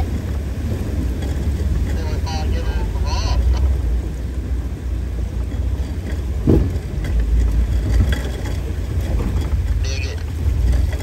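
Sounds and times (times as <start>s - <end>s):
car engine low rumble: 0.0s - 11.0s
water and tyres noise: 0.0s - 11.0s.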